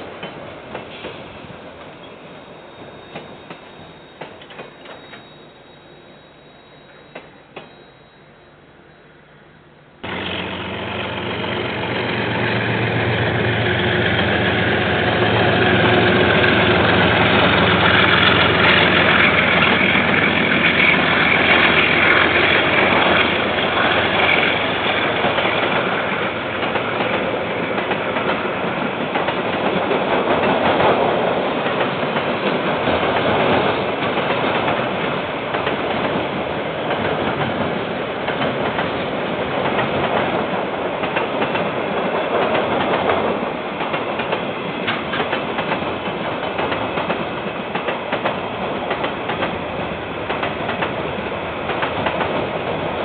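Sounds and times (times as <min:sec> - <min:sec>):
diesel locomotive engine humming: 0:05.6 - 0:53.0.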